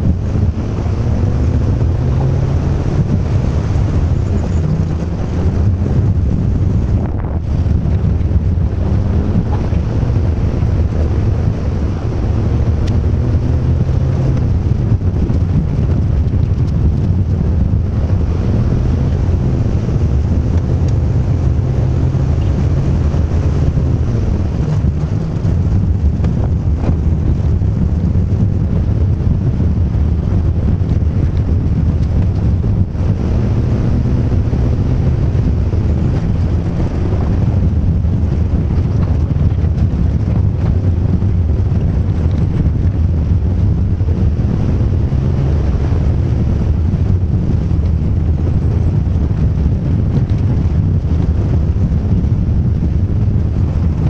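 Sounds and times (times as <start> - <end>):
vehicle engine running: 0.0 - 54.0
wind and road noise: 0.0 - 54.0.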